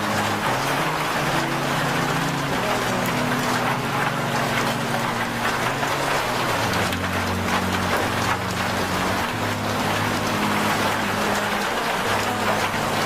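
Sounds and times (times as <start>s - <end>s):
rain-like hiss: 0.0s - 13.0s.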